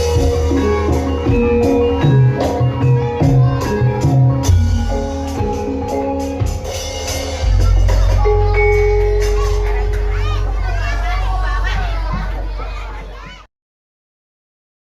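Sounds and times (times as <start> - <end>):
metal-keyed percussion: 0.0 - 13.0
drums: 0.0 - 13.5.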